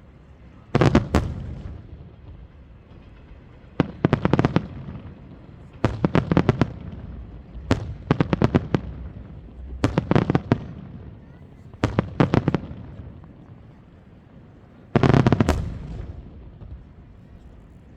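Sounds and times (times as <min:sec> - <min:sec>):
fireworks bangs: 0:00.4 - 0:17.9.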